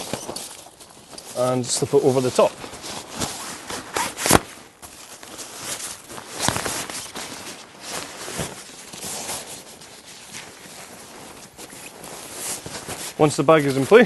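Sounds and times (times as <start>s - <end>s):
tent fabric rustling and scraping: 0.0s - 14.0s.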